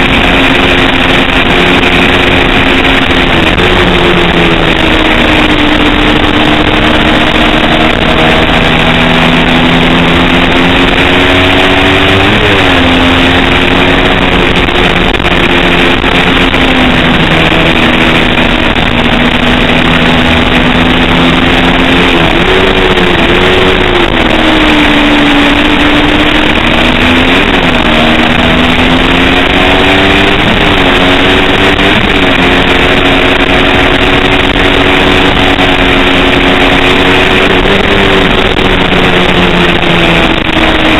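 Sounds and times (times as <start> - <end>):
motorcycle engine revving: 0.0 - 40.9
steady rushing noise: 0.0 - 40.9.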